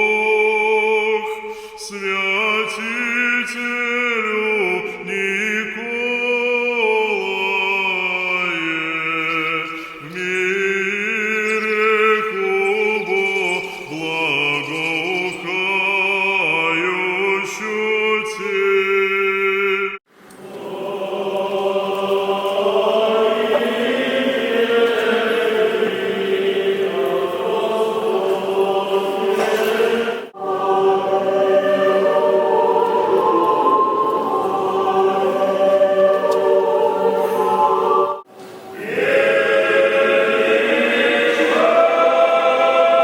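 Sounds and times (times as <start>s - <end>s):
choir chanting long held notes: 0.0s - 43.0s.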